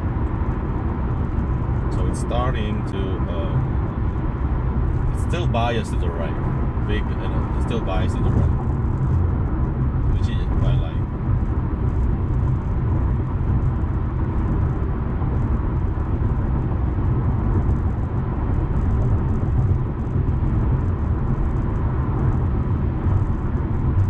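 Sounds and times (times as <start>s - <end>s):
road rumble inside car cabin: 0.0s - 24.0s.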